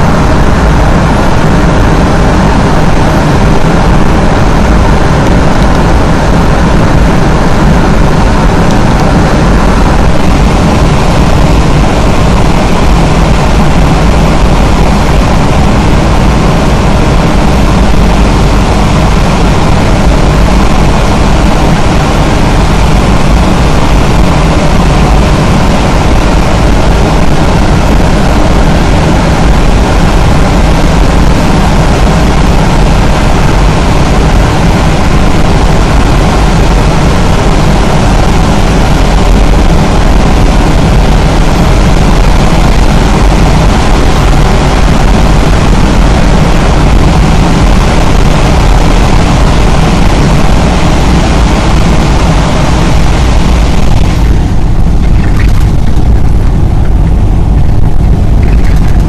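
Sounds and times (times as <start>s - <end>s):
vehicle road and engine noise: 0.0s - 59.0s.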